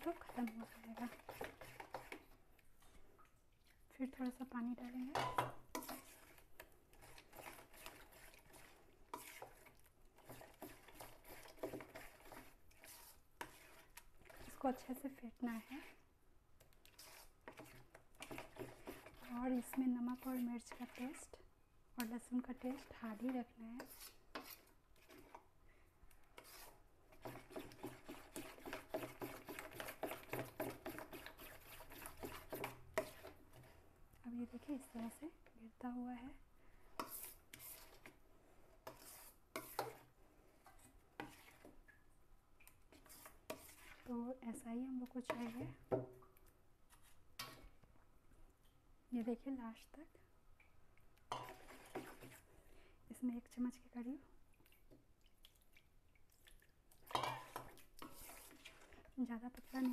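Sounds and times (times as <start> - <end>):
batter stirred in a bowl: 0.0 - 35.6, 36.8 - 47.9, 51.0 - 59.9.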